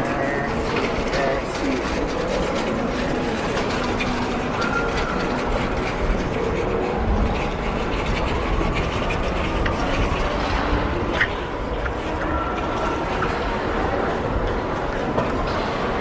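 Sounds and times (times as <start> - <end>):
rail vehicle rumbling on tracks: 0.0 - 16.0.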